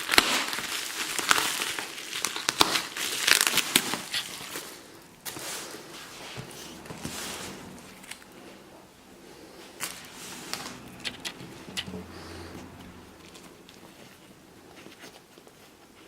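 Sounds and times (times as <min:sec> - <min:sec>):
packaging rustling: 0:00.0 - 0:08.7, 0:09.6 - 0:16.0.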